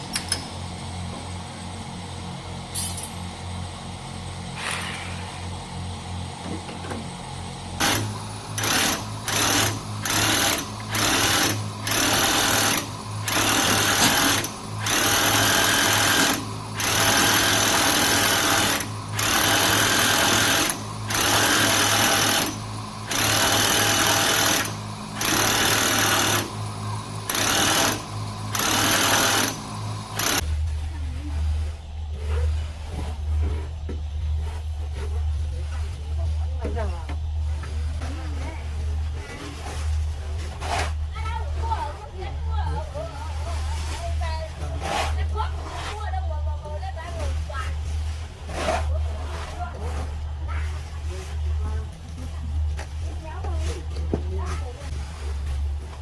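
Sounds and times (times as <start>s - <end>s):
motor hum: 4.4s - 56.0s.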